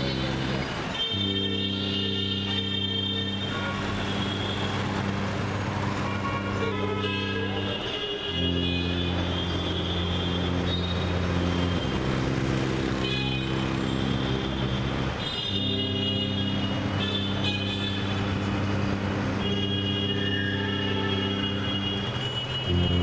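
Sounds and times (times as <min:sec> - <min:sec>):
city street traffic: 0:00.0 - 0:23.0
sustained drone chords: 0:00.0 - 0:23.0.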